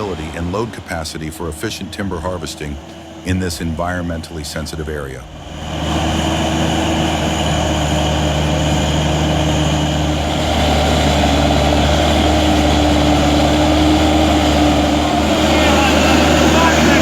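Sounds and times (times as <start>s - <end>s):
diesel engine droning: 0.0s - 17.0s
high engine whine: 0.0s - 17.0s.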